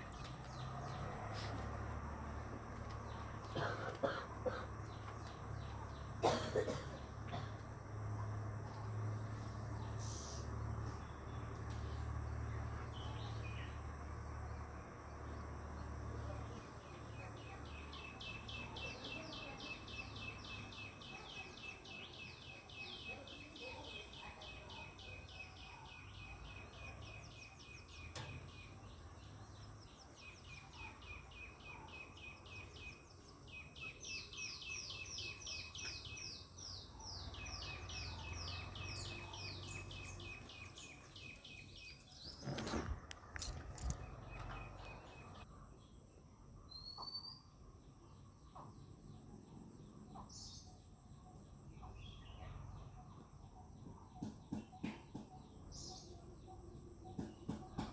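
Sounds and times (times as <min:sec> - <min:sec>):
bird chirping: 0:08.8 - 0:57.9.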